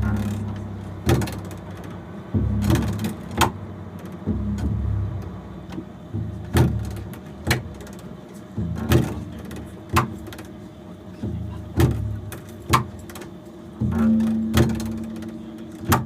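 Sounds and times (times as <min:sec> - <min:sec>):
percussive knocks on double bass: 0:00.0 - 0:10.6, 0:11.2 - 0:16.0
double bass low notes: 0:00.0 - 0:16.0.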